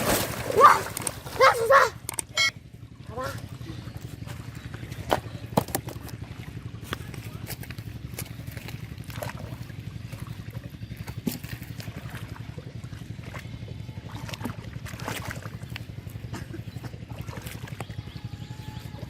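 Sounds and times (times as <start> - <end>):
muddy water splashes and clicks: 0.0 - 2.5, 3.3 - 18.2
motor throbbing: 0.0 - 19.0.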